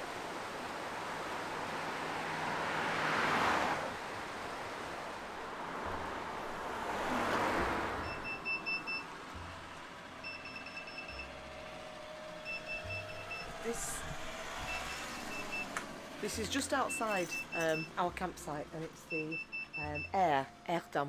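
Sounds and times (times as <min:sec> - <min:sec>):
traffic rushing past: 0:00.0 - 0:21.0.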